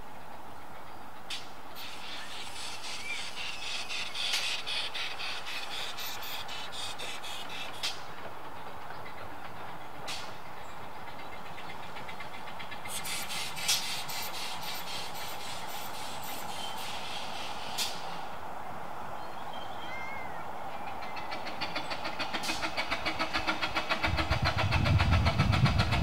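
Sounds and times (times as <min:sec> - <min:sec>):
miniature steam train running: 0:00.0 - 0:18.5, 0:20.7 - 0:26.0.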